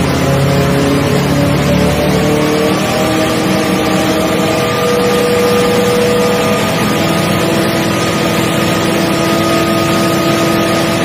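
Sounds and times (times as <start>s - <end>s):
helicopter engine droning: 0.0s - 11.0s
rotors spinning: 0.0s - 11.0s.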